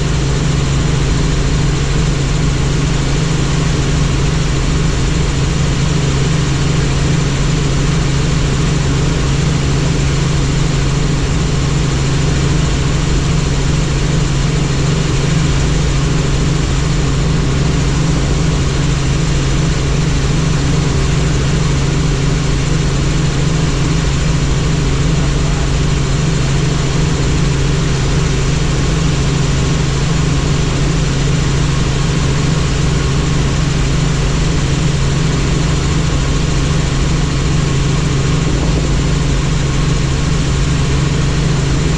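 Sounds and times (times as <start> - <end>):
helicopter turbine and rotor: 0.0 - 41.9.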